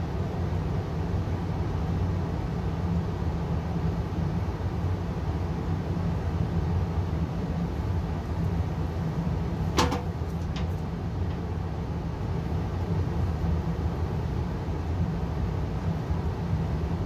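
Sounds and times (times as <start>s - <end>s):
furnace air rush and hum: 0.0s - 17.0s.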